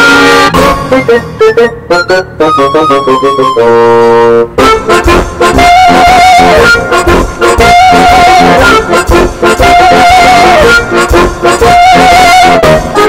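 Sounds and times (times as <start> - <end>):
loud brass music: 0.0 - 13.0.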